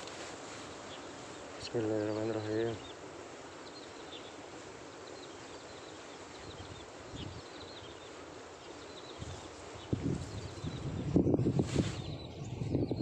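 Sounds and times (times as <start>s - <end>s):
steady hiss: 0.0s - 12.3s
small birds chirping: 0.0s - 13.0s.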